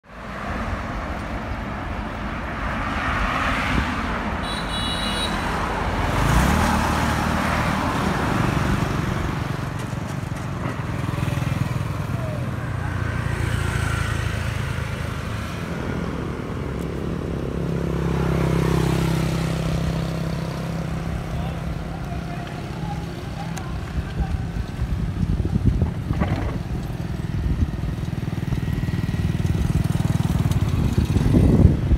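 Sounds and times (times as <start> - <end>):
motor scooters passing: 0.2 - 31.9.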